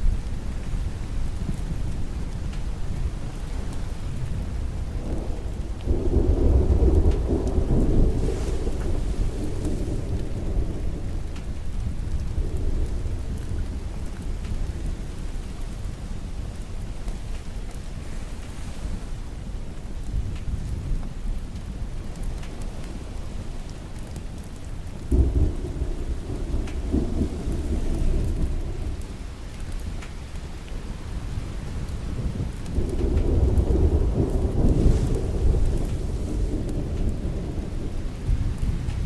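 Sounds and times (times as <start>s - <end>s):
thunder rolling: 0.0s - 16.5s, 22.4s - 39.0s
steady rain: 0.0s - 39.0s.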